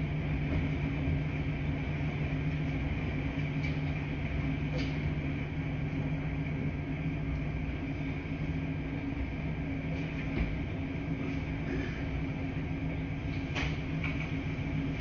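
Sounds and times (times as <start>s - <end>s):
washing machines humming: 0.0s - 15.0s.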